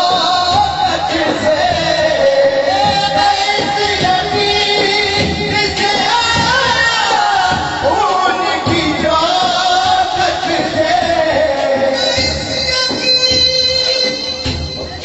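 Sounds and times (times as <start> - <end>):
man singing through loudspeakers: 0.0 - 15.0
music with drum beat: 0.0 - 15.0.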